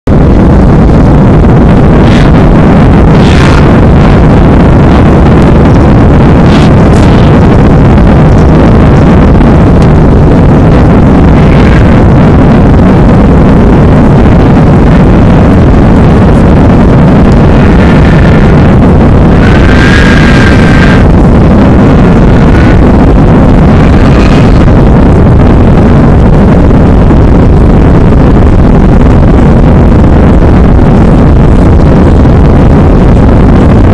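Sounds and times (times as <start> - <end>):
jet engines at takeoff power: 0.0 - 30.7
short high whine: 0.0 - 33.9.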